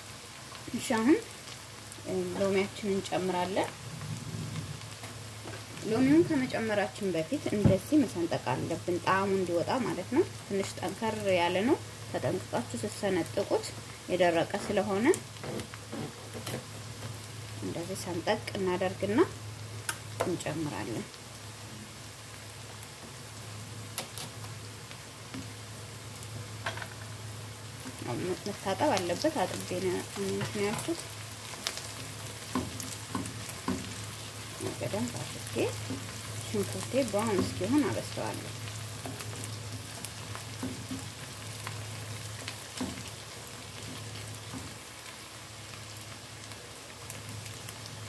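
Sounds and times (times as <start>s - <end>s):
onions and spices sizzling in oil: 0.0s - 48.0s.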